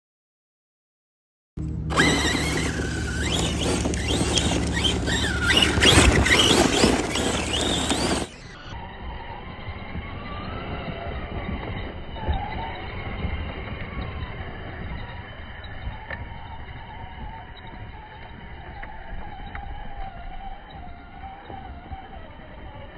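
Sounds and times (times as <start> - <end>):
electric motor whining: 1.6 - 22.9
tyres spinning in loose dirt: 1.9 - 22.9.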